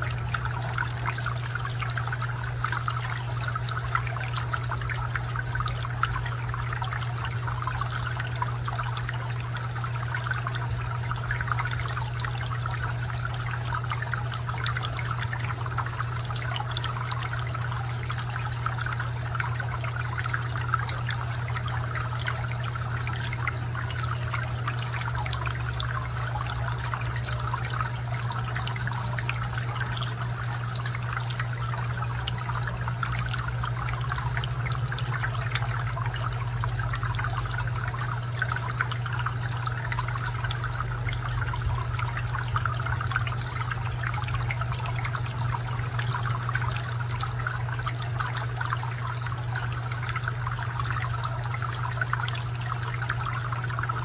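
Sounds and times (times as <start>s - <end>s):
fountain water trickling: 0.0s - 54.0s.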